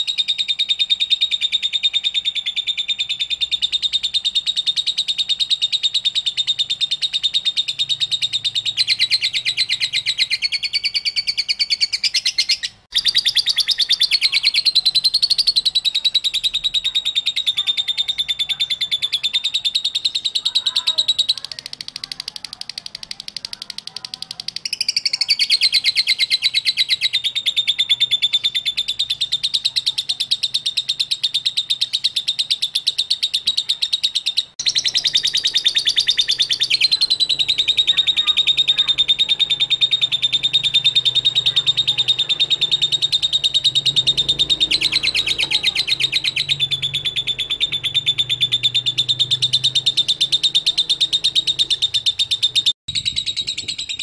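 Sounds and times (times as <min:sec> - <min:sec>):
lovebird chattering trill: 0:00.0 - 0:54.0.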